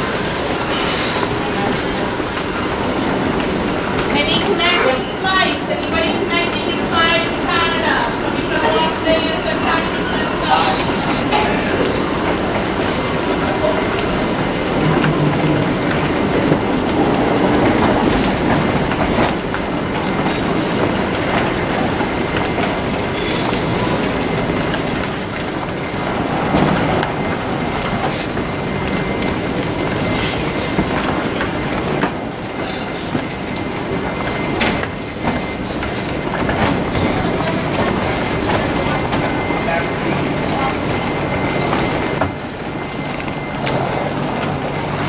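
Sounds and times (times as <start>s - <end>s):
train wheels rumbling on track: 0.0s - 45.0s
wheel clacks: 0.0s - 45.0s.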